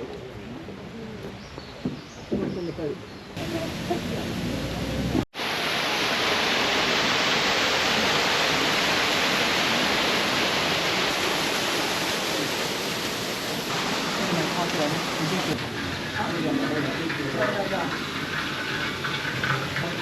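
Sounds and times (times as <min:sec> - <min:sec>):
rushing water roar: 0:03.4 - 0:20.0.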